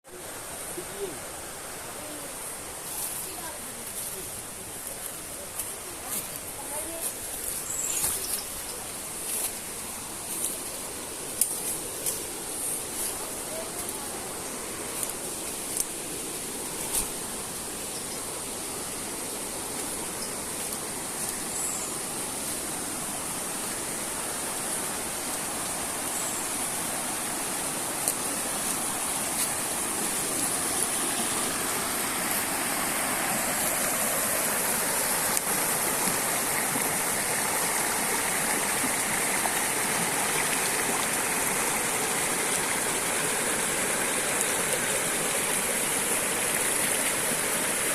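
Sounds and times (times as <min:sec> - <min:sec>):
water rushing: 0:00.1 - 0:47.9.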